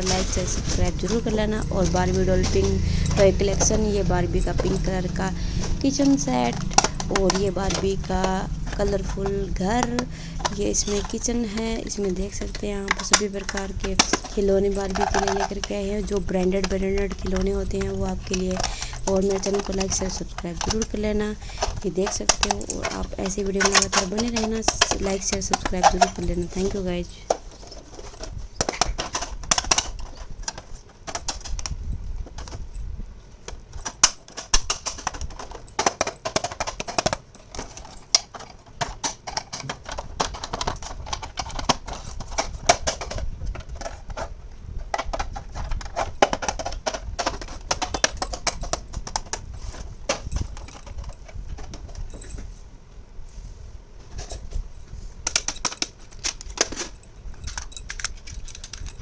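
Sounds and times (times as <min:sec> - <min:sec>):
plastic toy pieces clicking: 0:00.0 - 0:32.6, 0:33.7 - 0:44.3, 0:44.9 - 0:52.2, 0:55.2 - 0:59.0.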